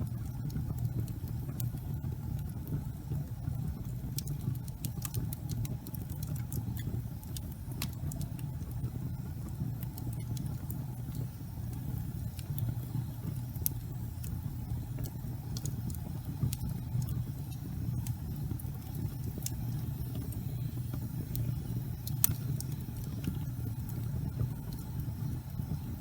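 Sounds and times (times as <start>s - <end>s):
fire crackles and pops: 0.0s - 26.0s
fireplace fire rumbling: 0.0s - 26.0s.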